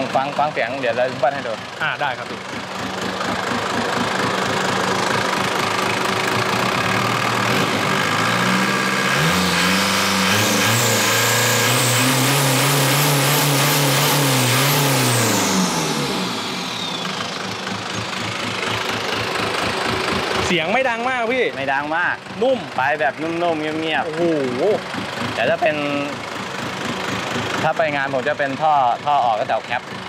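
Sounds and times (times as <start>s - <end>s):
diesel engine idling and revving: 0.0s - 30.0s.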